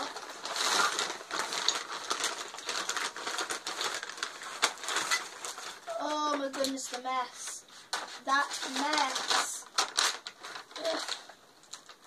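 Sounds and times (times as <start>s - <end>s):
paper bag rustling and crinkling: 0.0s - 12.0s.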